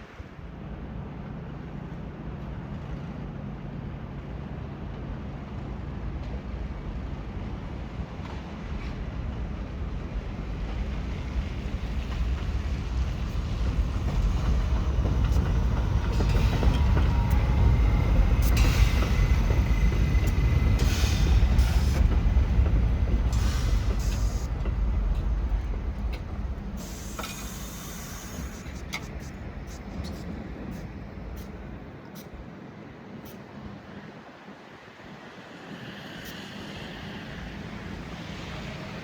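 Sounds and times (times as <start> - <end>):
subway train rumbling past: 0.0 - 39.0.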